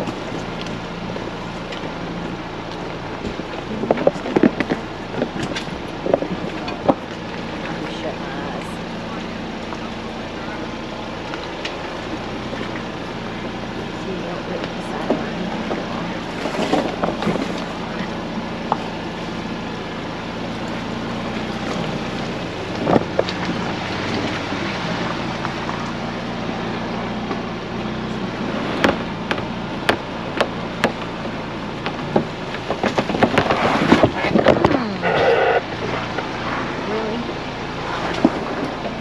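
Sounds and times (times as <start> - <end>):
engine low hum: 0.0 - 39.0
tyres on dirt trail: 0.0 - 39.0.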